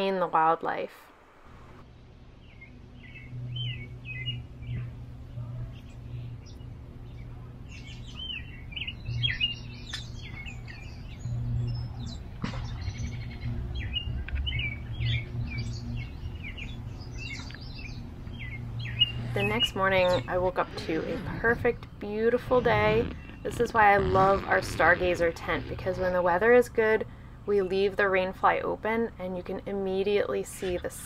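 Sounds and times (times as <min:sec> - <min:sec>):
steady low hum: 0:00.0 - 0:31.0
songbirds chirping: 0:01.7 - 0:31.0.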